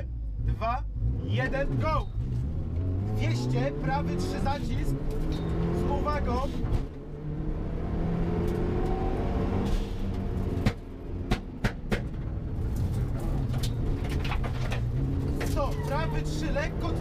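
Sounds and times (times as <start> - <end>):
car engine pulling under load: 1.0 - 17.0.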